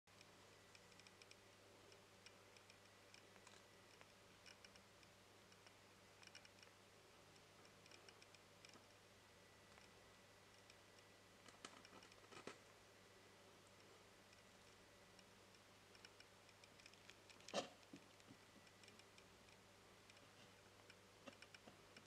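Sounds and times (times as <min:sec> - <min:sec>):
low steady hum: 0:00.1 - 0:22.0.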